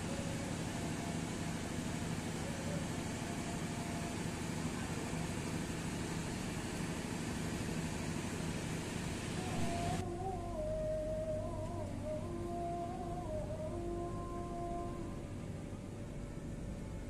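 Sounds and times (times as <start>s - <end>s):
train engine droning: 0.0s - 17.0s.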